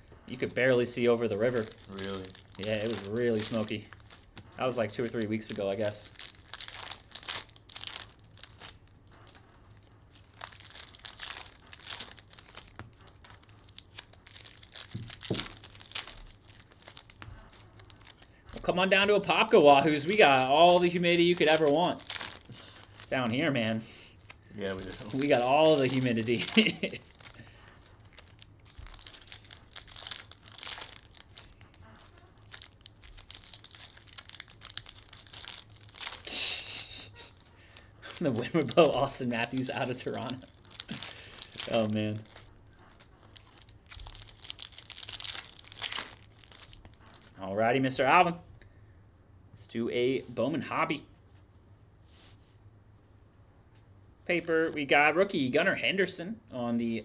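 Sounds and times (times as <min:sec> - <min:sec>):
foil wrappers tearing and crinkling: 0:00.3 - 0:47.4.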